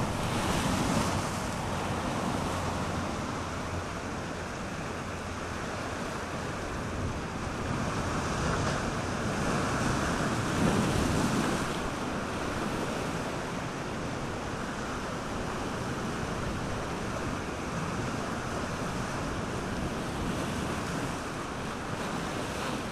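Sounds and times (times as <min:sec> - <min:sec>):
surf breaking over rocks: 0:00.0 - 0:22.9.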